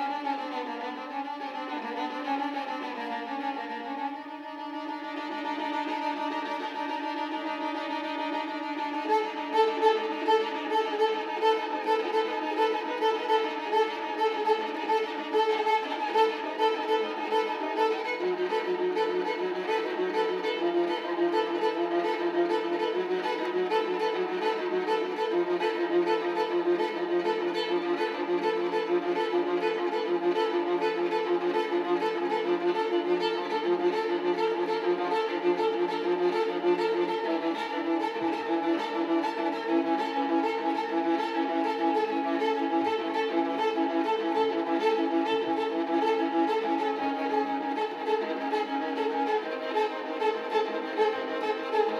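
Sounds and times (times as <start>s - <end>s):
bowed viola: 0.0s - 51.9s.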